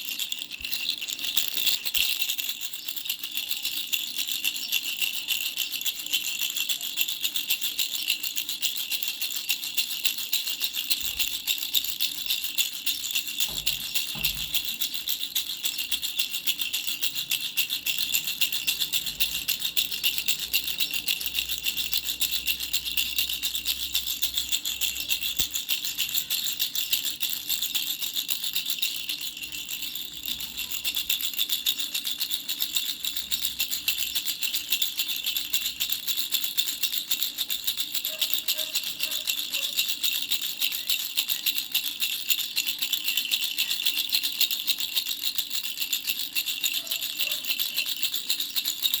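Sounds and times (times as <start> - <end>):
baby rattle shaken fast: 0.0 - 49.0.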